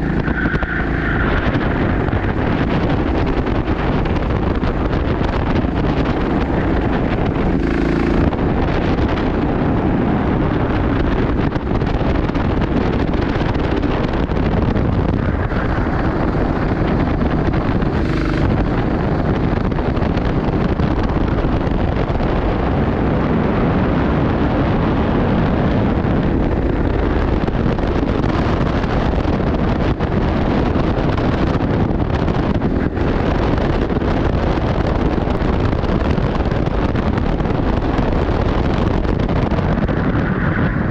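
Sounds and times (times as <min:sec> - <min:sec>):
low rumble: 0:00.0 - 0:40.9
wind buffeting microphone: 0:00.0 - 0:40.9.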